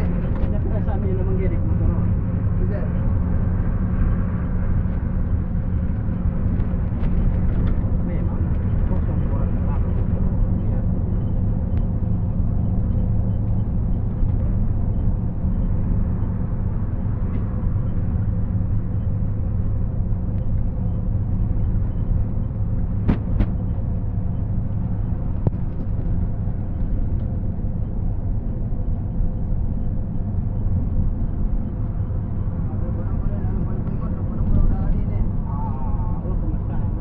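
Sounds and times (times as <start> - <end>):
bus diesel engine drone: 0.0 - 37.0
road noise: 0.0 - 37.0.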